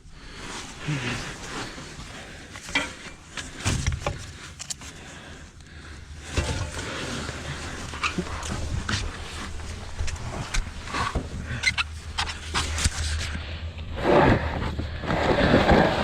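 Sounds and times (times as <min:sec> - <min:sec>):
rustling and scraping of movement: 0:00.0 - 0:16.0.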